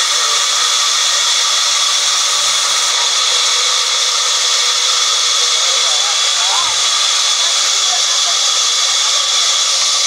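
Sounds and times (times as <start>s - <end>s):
band saw cutting wood: 0.0s - 10.0s
band saw high whine: 0.0s - 10.0s.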